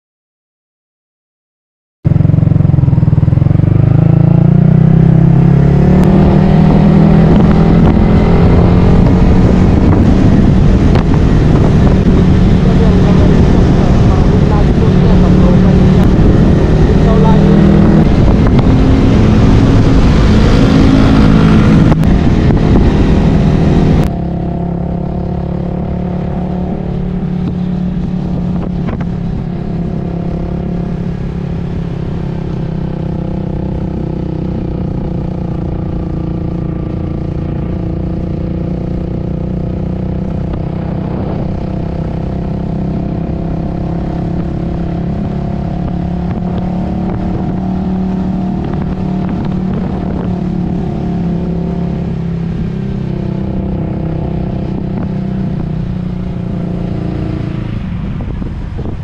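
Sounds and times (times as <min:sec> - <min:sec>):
motorcycle engine running: 0:02.1 - 0:59.0
loud rushing noise: 0:05.0 - 0:59.0.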